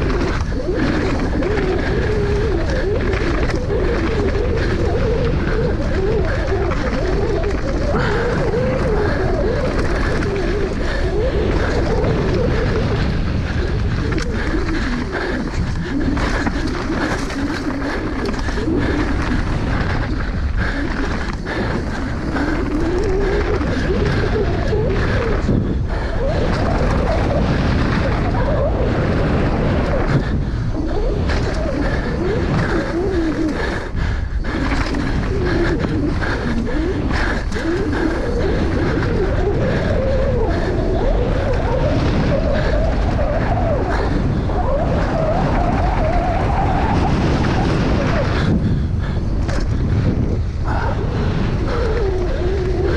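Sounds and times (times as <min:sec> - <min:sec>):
bike tyre and wind rush: 0:00.0 - 0:52.9
wavering hum: 0:00.0 - 0:52.9.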